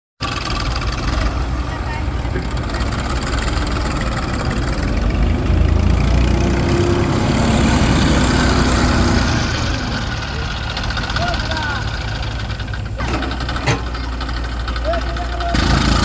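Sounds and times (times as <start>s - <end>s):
heavy diesel engine running: 0.2s - 16.0s.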